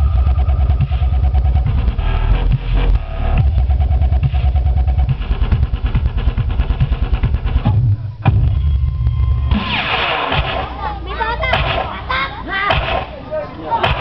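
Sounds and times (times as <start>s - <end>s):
distorted electronic dance music: 0.0s - 14.0s.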